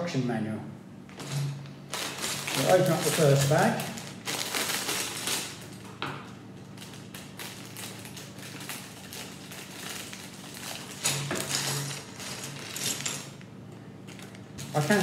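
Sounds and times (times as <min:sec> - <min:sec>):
plastic bag crinkling: 0:01.1 - 0:15.0.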